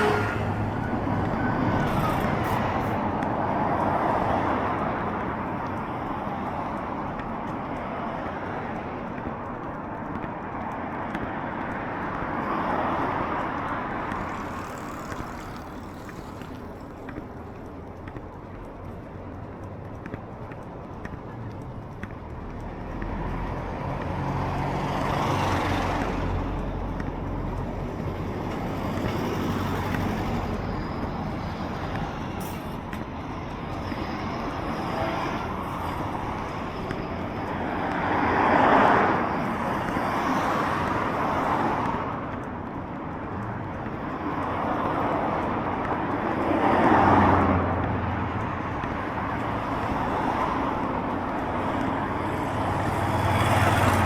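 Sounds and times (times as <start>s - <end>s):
steady traffic hum: 0.0s - 54.0s
vehicles passing by: 0.0s - 54.0s.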